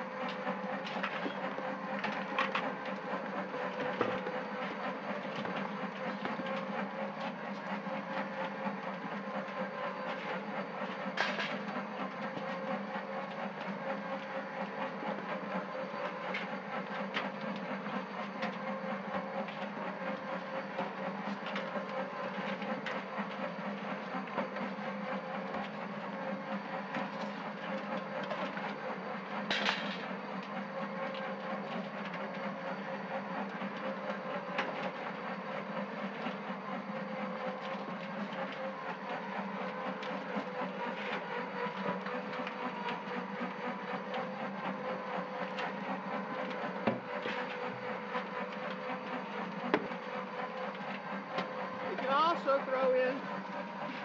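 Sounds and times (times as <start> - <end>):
motor hum: 0.0 - 54.0.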